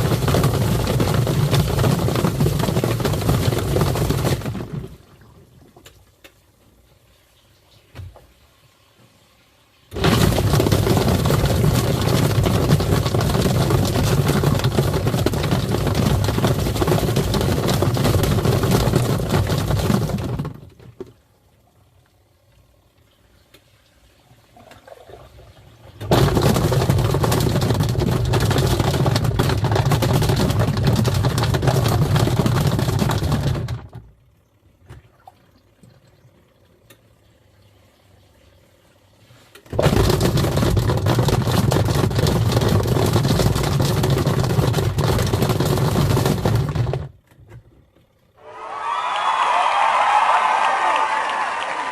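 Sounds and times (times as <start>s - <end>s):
washing machine motor hum: 0.0s - 7.1s, 9.7s - 48.4s.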